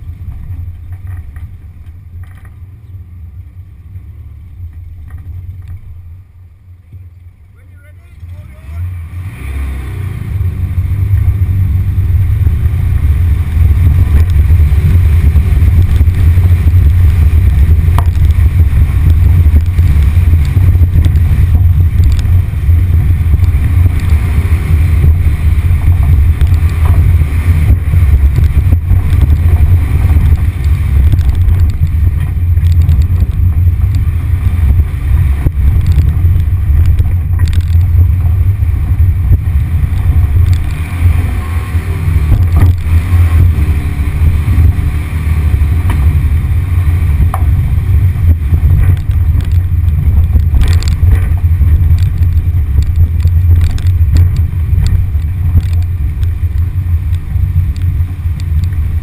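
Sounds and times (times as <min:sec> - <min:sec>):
car engine pulling under load: 0:08.2 - 0:59.0.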